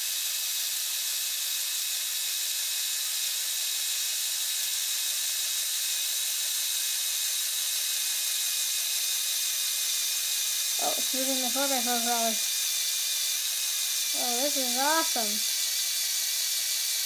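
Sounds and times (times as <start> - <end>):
small motor whirring: 0.0 - 17.0.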